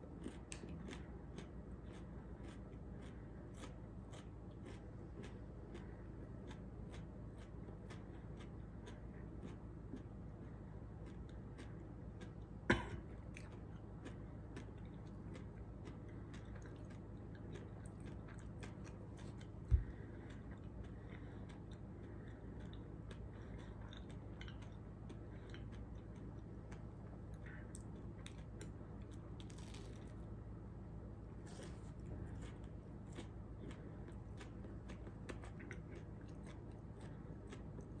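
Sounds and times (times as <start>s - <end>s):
person chewing crunchy snack: 0.0s - 30.2s, 31.4s - 38.0s.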